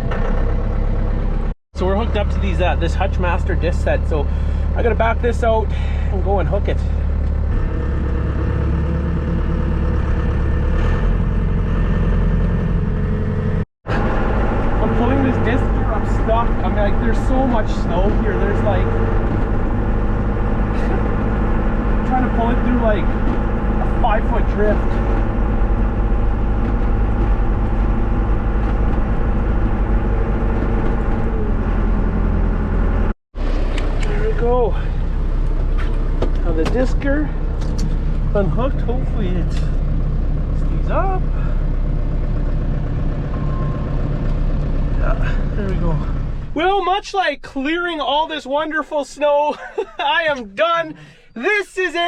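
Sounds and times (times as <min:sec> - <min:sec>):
diesel tractor engine running: 0:00.0 - 0:46.8.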